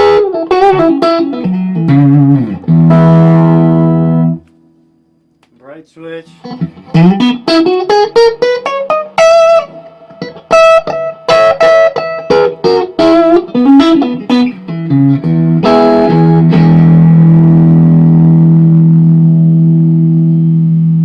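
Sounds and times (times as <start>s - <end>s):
clean electric guitar playing: 0.0s - 4.5s, 6.2s - 21.0s.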